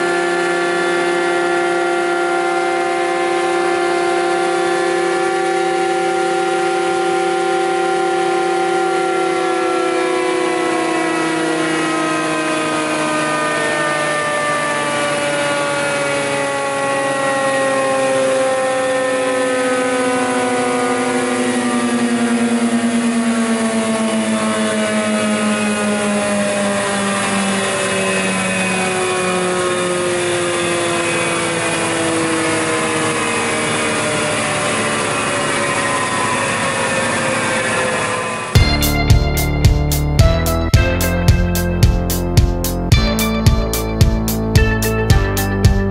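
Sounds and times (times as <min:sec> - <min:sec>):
planer spinning down whine: 0:00.0 - 0:45.9.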